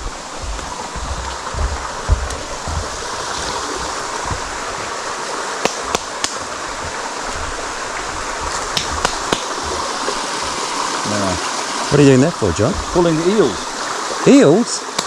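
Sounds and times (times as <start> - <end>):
stream water running: 0.0 - 15.0.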